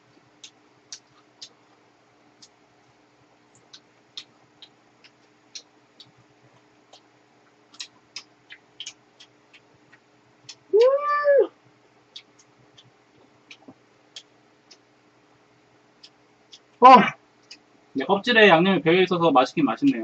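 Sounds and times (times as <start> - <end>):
crunchy chewing of shrimp: 0.0 - 10.7, 11.7 - 17.8
faint steady hum: 0.0 - 20.0.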